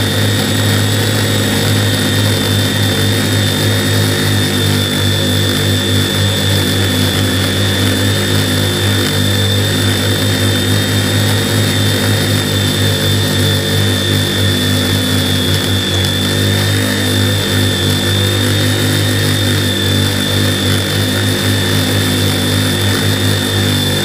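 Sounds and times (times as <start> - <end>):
drone motors humming: 0.0 - 24.0.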